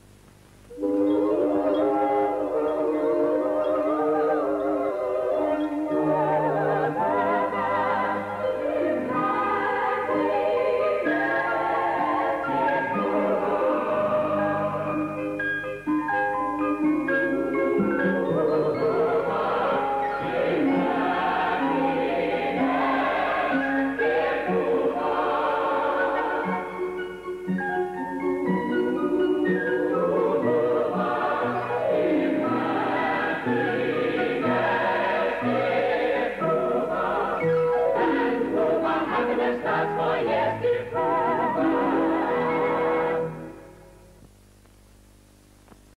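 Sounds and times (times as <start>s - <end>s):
voices singing with vibrato: 0.7s - 15.4s, 17.2s - 27.3s, 28.5s - 44.0s.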